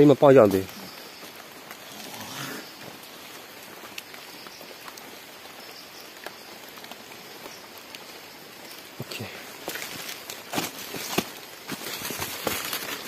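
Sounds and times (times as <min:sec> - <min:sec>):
light rain on leaves: 0:00.0 - 0:13.0.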